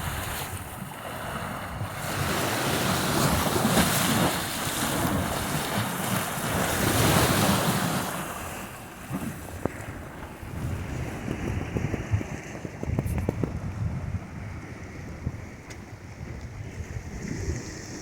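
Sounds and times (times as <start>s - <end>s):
wave washing up shore: 0.0s - 18.0s
wind buffeting microphone: 0.0s - 18.0s.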